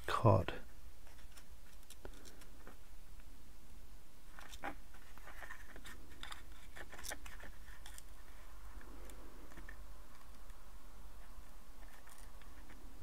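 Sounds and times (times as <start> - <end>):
tape peeling rustles: 1.0 - 2.8, 4.3 - 13.0.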